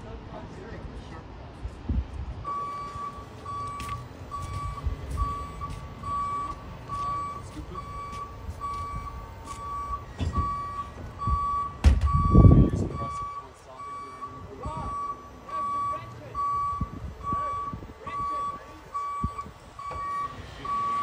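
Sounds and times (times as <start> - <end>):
low engine rumble: 0.0 - 21.0
backup alarm beeping: 2.4 - 21.0.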